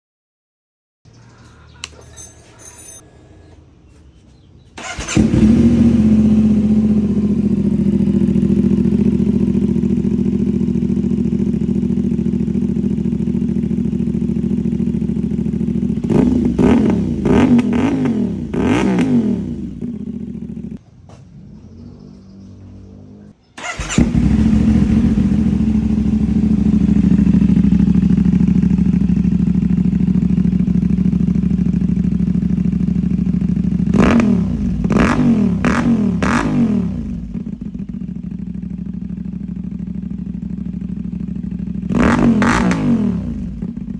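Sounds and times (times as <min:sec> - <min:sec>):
motorcycle engine idling: 0:01.1 - 0:03.6, 0:04.3 - 0:43.9
motorcycle throttle blips: 0:04.0 - 0:43.9.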